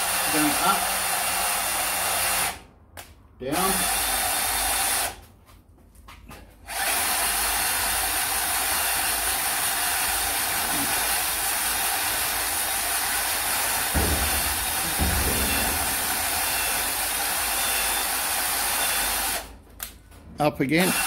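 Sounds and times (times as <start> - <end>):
cordless drill running: 0.0 - 2.6, 3.6 - 5.2, 6.7 - 19.6, 20.8 - 21.0.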